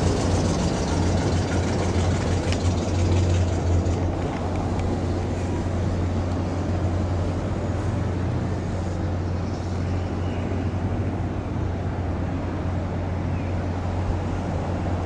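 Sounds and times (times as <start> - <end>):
low mechanical hum: 0.0 - 15.0
outdoor background noise: 0.0 - 15.0.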